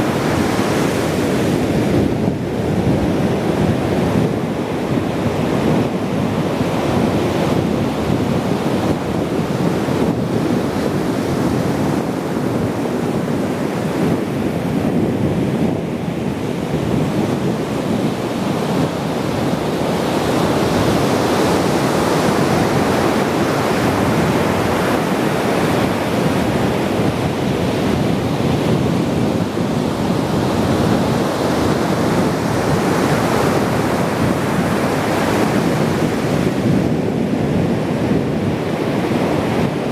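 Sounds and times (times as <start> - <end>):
waves breaking on shore: 0.0 - 39.9
wind buffeting microphone: 0.0 - 39.9.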